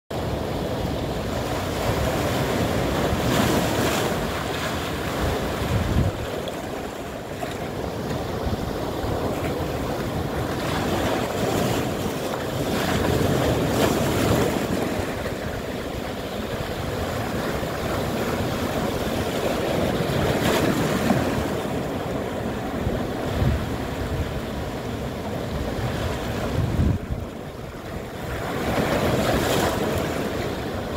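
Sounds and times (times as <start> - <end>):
waves crashing and splashing: 0.1 - 30.9
waves washing on rocks: 0.2 - 30.9.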